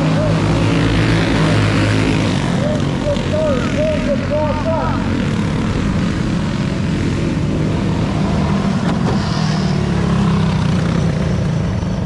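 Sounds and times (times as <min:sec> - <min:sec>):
go-kart engines racing: 0:00.0 - 0:12.0.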